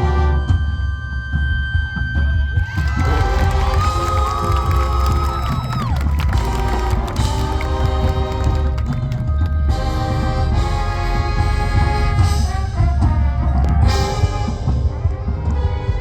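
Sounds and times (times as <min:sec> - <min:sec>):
marching band brass chords: 0:00.0 - 0:01.1, 0:02.6 - 0:16.0
drum and percussion hits: 0:02.6 - 0:16.0.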